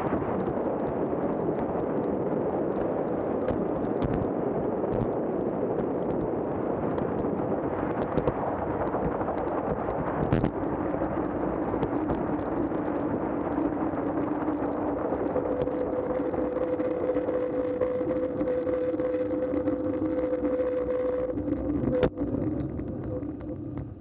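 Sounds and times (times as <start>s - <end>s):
steady hum: 0.0s - 24.0s
wind and road noise: 0.0s - 24.0s.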